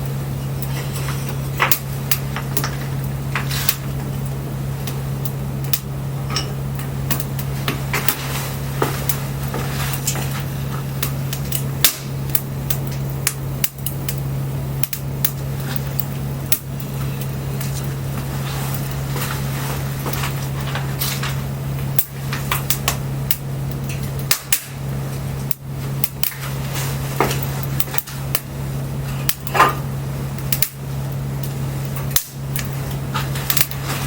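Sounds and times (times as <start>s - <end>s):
campfire crackling and popping: 0.0s - 34.0s
steady low hum: 0.0s - 34.0s.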